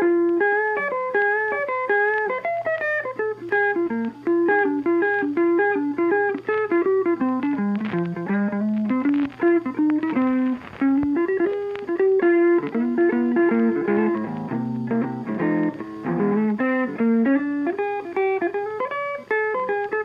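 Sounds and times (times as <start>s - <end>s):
guitar picking a melody: 0.0s - 20.0s.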